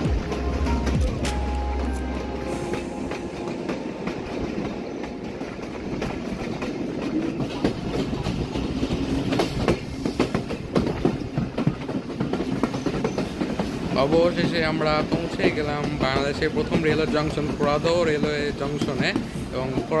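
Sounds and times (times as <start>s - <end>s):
train wheels clattering: 0.0s - 20.0s.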